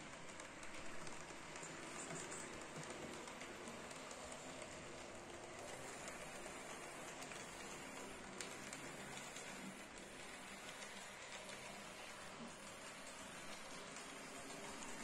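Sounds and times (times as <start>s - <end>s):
model train wheels and motor rattling: 0.0s - 15.0s.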